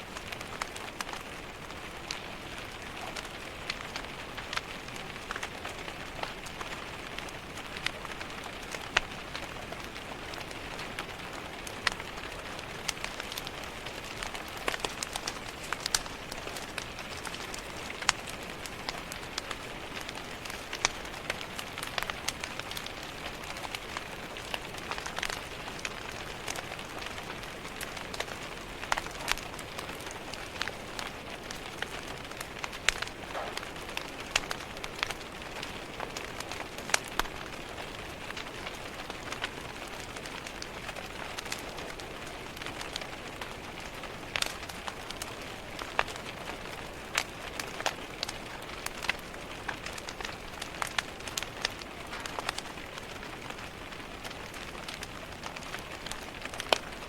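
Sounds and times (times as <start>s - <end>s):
rain pattering on window: 0.0s - 57.0s
wood fire crackling: 0.0s - 57.0s.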